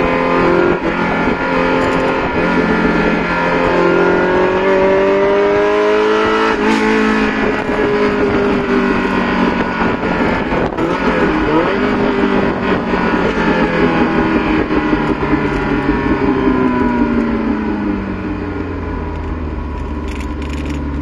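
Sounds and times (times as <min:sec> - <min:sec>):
car engine through exhaust: 0:00.0 - 0:21.0.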